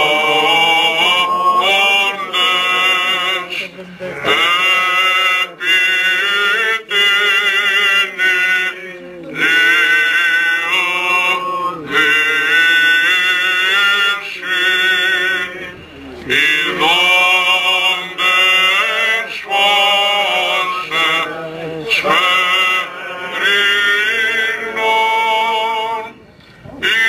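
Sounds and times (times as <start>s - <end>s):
man singing chant: 0.0s - 26.2s.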